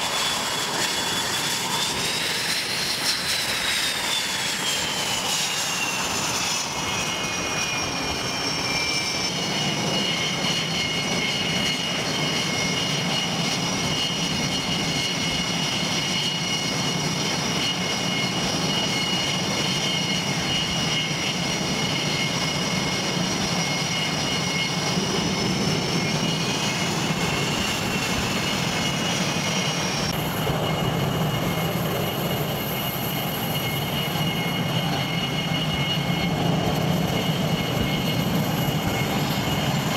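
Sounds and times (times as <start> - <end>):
aircraft engines with turbine whine: 0.0 - 39.9.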